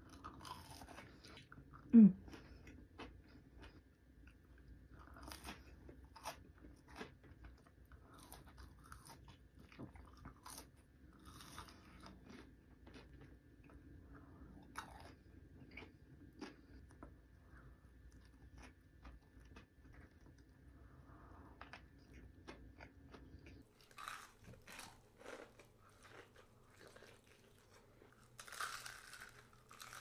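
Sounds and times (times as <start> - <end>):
person chewing crunchy food: 0.0 - 30.0.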